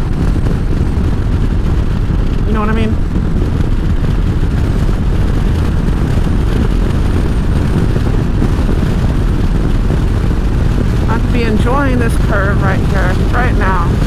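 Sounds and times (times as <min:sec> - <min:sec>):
motorcycle engine rumble: 0:00.0 - 0:14.0
wind noise on microphone: 0:00.0 - 0:14.0.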